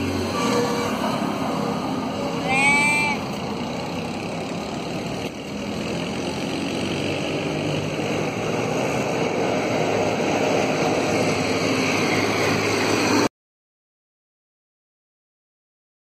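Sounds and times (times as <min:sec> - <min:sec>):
vehicle engine rumbling: 0:00.0 - 0:13.3.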